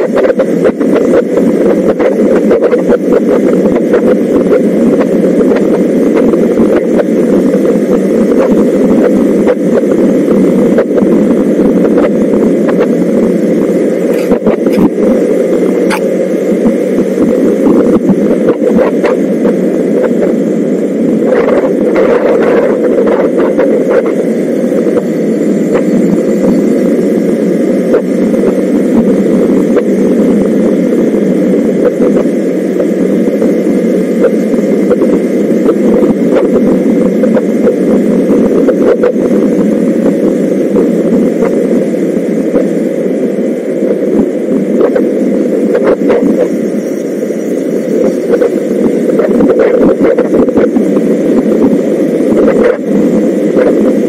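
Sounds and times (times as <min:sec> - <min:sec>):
motorcycle engine drone: 0:00.0 - 0:54.0
wind noise on microphone: 0:00.0 - 0:54.0.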